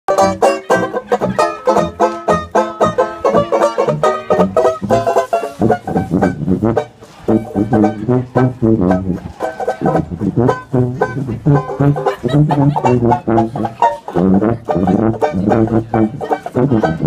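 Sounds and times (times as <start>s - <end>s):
banjo strumming: 0.1s - 17.0s
tuba bass line: 0.1s - 17.0s.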